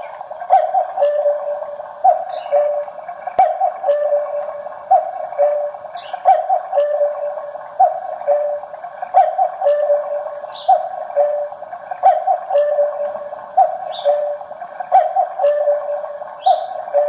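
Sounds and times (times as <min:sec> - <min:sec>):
cuckoo clock calling: 0:00.0 - 0:17.0.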